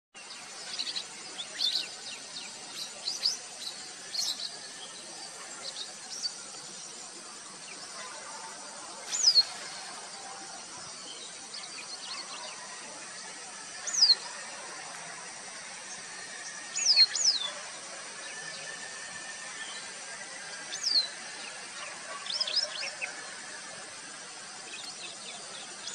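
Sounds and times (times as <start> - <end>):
insect drone: 0.2 - 25.9.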